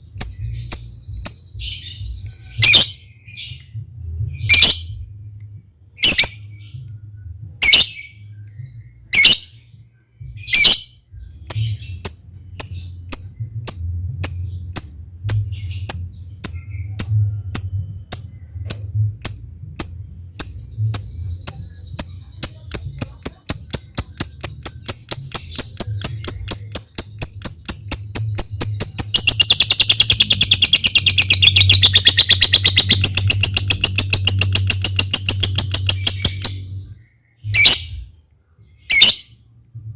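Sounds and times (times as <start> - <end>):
lovebird chirping and trilling: 0.0 - 5.2, 6.0 - 9.7, 10.3 - 38.2, 38.8 - 39.4.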